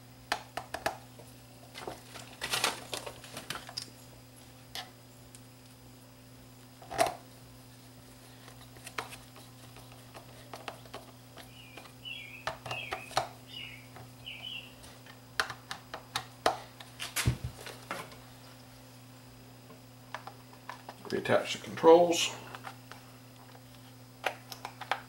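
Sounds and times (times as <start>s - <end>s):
low mains hum: 0.0s - 25.0s.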